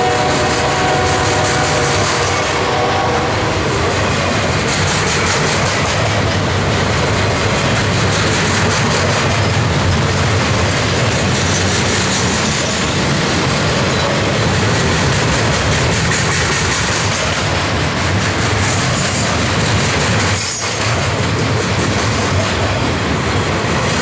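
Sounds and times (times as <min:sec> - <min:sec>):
steel wheels running on track: 0:00.0 - 0:24.0.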